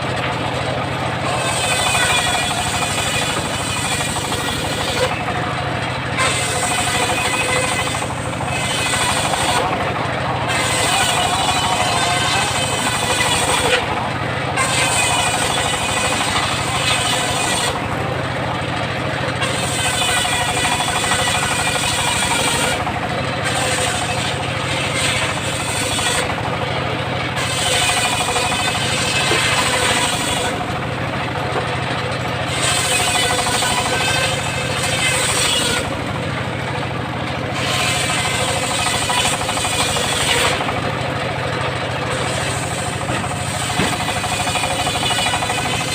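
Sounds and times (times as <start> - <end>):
circular saw cutting timber: 0.0 - 45.9
sawmill engine running: 0.0 - 45.9.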